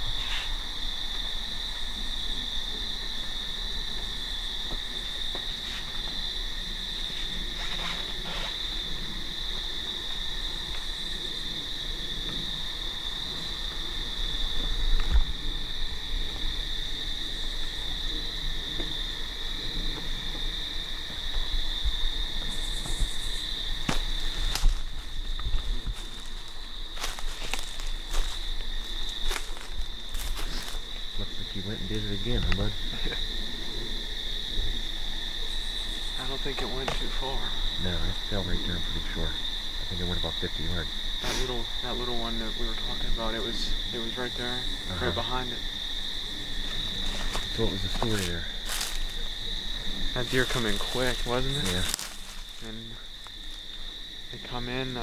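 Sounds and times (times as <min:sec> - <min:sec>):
insects shrill chorus: 0:00.0 - 0:55.0.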